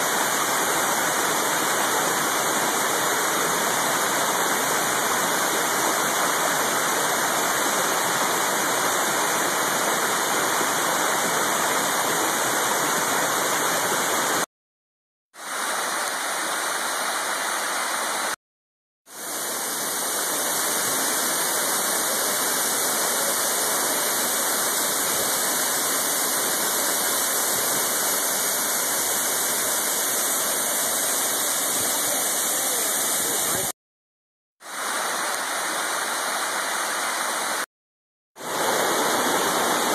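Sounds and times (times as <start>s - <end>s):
waterfall roaring: 0.0s - 14.5s, 15.5s - 18.4s, 19.2s - 33.7s, 34.7s - 37.7s, 38.4s - 39.9s.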